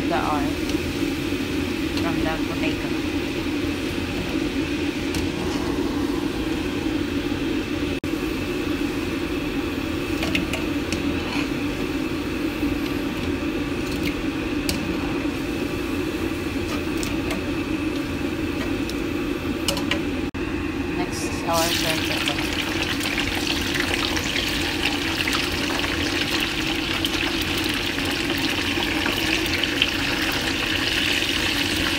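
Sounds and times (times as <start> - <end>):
low mechanical hum: 0.0 - 31.9.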